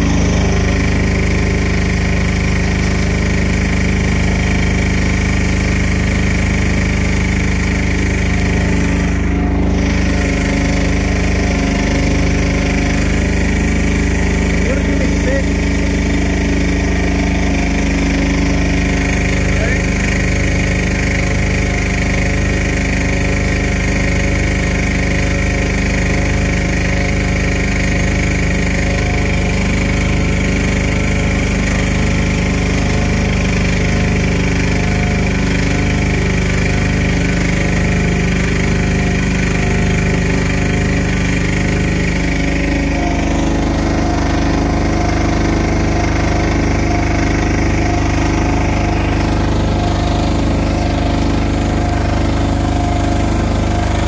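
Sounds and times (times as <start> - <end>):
paddle mixer engine running: 0.0 - 54.0.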